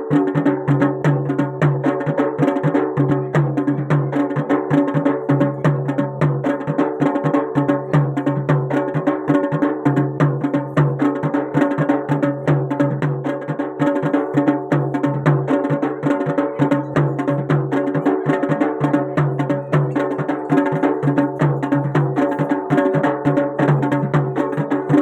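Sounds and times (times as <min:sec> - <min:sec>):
fast drumming: 0:00.0 - 0:25.0.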